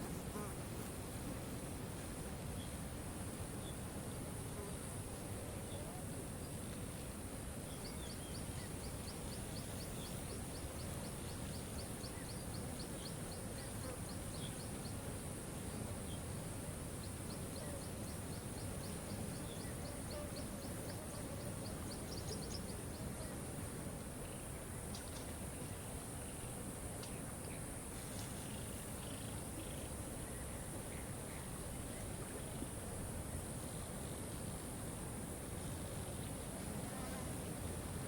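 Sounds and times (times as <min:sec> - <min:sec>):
constant high hiss: 0:00.0 - 0:38.0.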